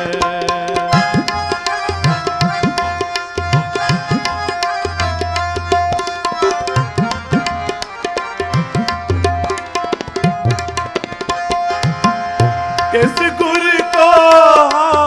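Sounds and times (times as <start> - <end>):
harmonium: 0.0 - 15.0
tabla playing a busy rhythm: 0.0 - 15.0.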